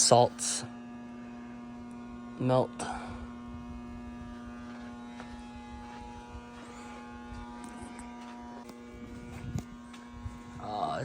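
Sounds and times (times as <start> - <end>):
electrical lamp buzz: 0.0 - 11.0.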